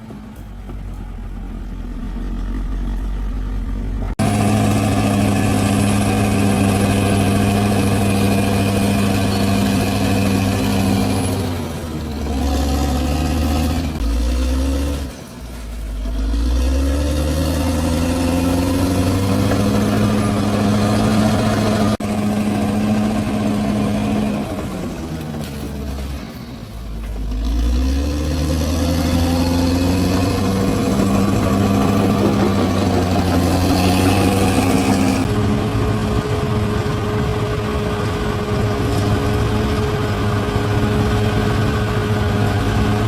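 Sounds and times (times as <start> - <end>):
bulldozer engine revving: 0.0 - 43.0.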